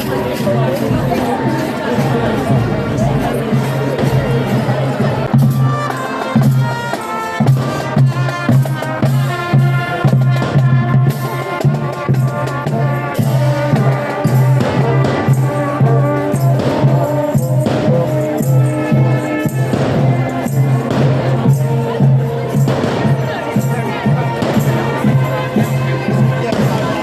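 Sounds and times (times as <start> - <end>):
marching band music: 0.0 - 27.0.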